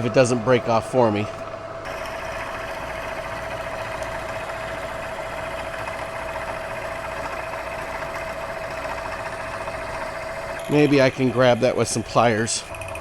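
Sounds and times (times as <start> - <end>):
milling machine whine: 0.0 - 13.0
rattly metal cutting chatter: 0.0 - 13.0.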